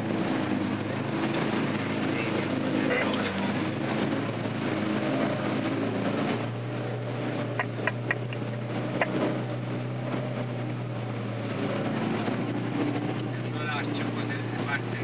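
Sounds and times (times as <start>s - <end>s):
vehicle engine running: 0.0s - 15.0s
water rushing and splashing: 0.0s - 15.0s.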